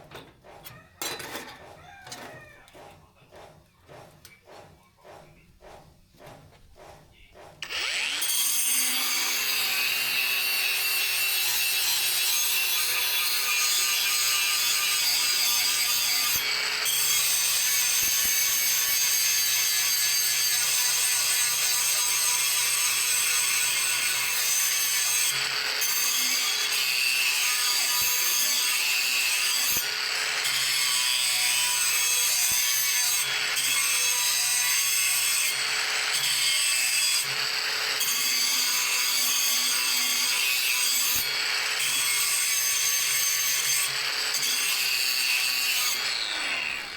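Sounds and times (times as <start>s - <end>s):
power tool grinding steel: 7.6s - 46.9s.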